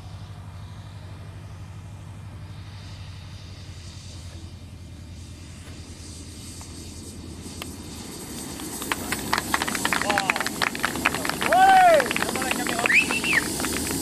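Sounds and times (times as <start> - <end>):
model jet engine humming: 0.0 - 14.0.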